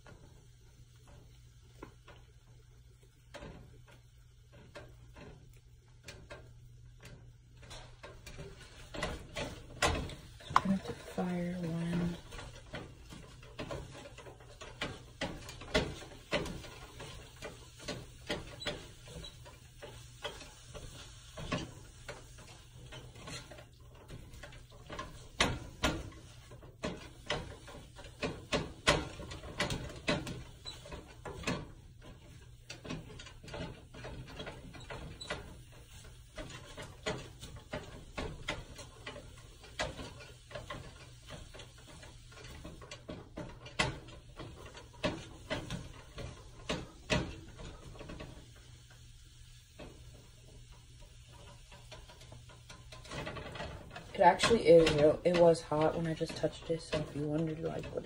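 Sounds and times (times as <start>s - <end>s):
spatula scraping a skillet: 7.8s - 58.0s.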